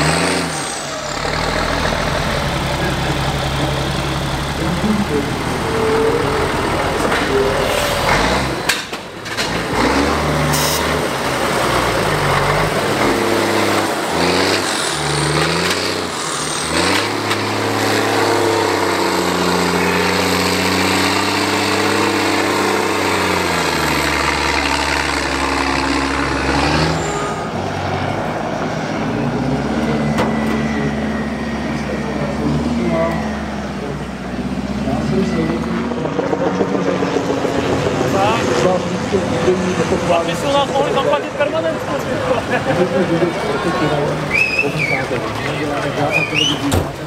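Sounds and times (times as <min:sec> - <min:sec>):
heavy diesel trucks revving: 0:00.0 - 0:47.0.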